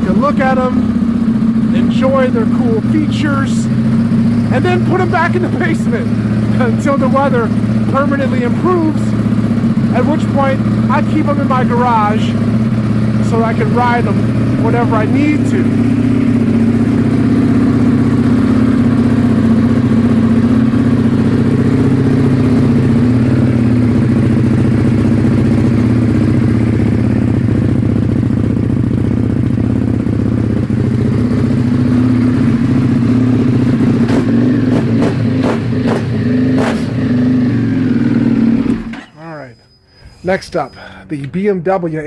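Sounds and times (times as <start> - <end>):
irregular engine clatter: 0.0 - 39.2
motorcycle engine idling: 0.0 - 39.2.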